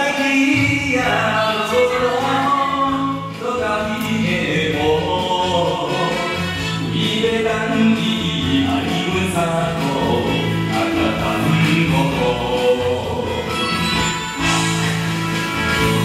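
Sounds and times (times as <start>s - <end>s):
backing track: 0.0s - 16.0s
person singing ballad: 0.0s - 16.0s.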